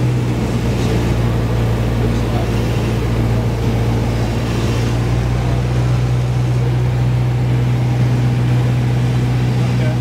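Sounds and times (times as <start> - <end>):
light aircraft engine drone: 0.0 - 10.0.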